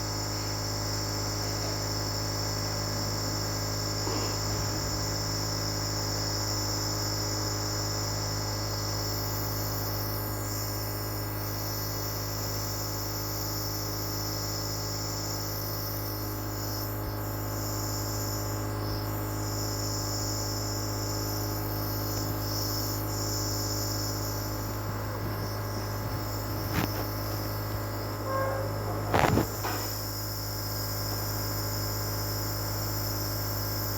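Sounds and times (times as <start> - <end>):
compressor nebulizer humming: 0.0 - 33.9.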